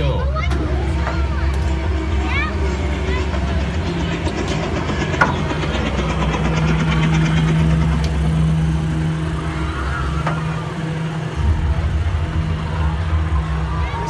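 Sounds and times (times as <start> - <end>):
ride machinery humming: 0.0 - 14.0.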